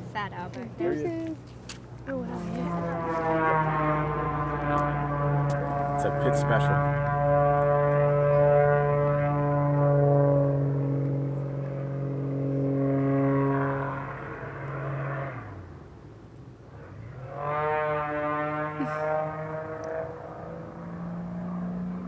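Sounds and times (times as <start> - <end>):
biplane engine droning: 0.0 - 22.0.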